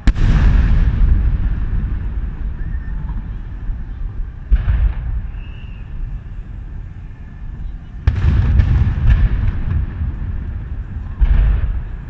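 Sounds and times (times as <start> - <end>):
firework booms: 0.0 - 12.0.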